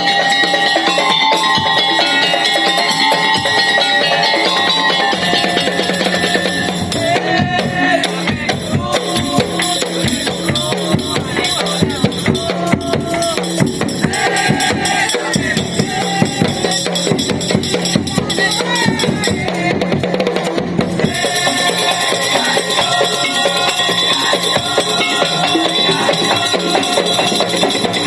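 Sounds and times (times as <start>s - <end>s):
fast dense drumming: 0.0s - 28.0s
pitched percussion melody: 0.0s - 28.0s.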